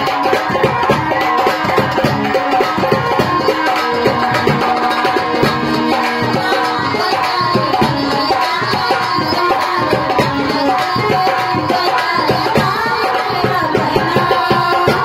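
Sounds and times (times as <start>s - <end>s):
folk dance music: 0.0s - 13.2s
steady drum beat: 0.0s - 15.0s.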